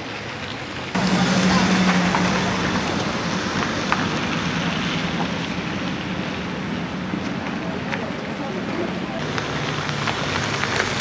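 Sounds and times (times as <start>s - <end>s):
tyre and traffic noise: 0.0s - 11.0s
truck engine hum: 0.9s - 11.0s.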